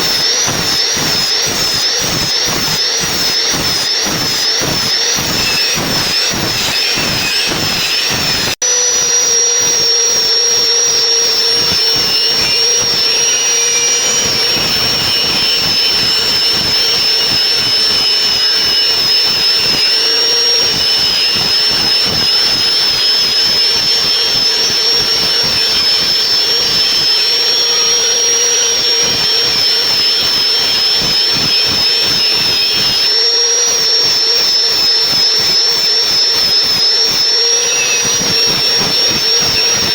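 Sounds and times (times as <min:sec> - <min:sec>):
log saw whining and rattling: 0:00.0 - 0:39.9.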